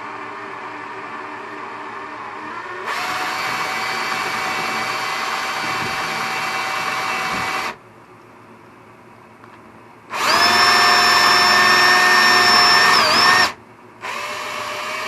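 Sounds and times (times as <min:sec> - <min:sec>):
power drill boring through plastic: 0:00.0 - 0:07.8, 0:10.1 - 0:15.0.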